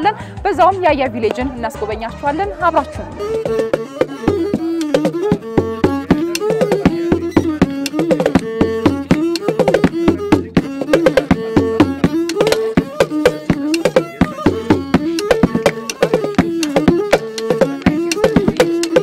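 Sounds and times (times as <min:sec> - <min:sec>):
held-note melody: 0:03.1 - 0:19.0
steady drum strikes: 0:03.2 - 0:19.0.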